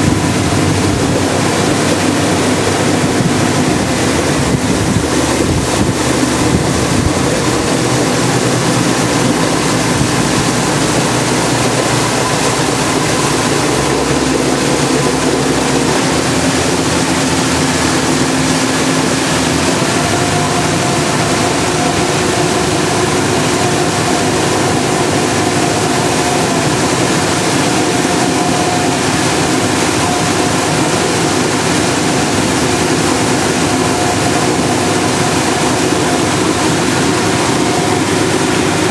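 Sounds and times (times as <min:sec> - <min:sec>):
boat engine humming: 0:00.0 - 0:38.9
rushing water of wake: 0:00.0 - 0:38.9.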